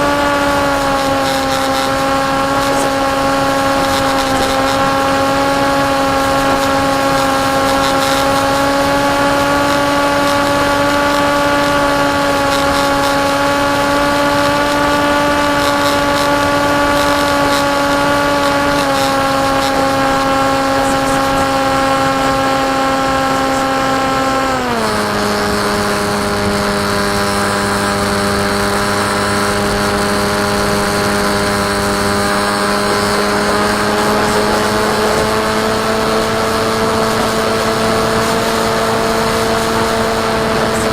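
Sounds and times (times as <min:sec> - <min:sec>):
electric motor and propeller drone: 0:00.0 - 0:40.9.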